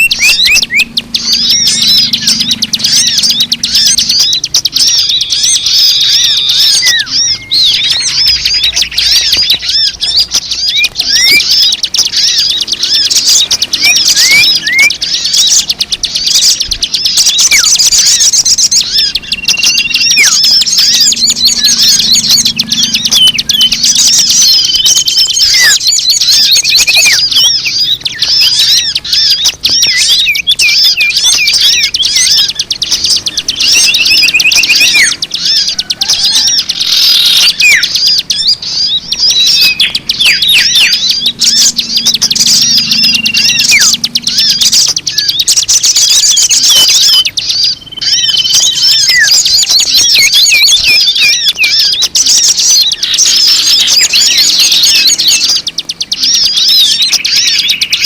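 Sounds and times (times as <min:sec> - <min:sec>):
small birds chirping: 0:00.0 - 0:58.0
whistled notes: 0:00.0 - 0:58.0.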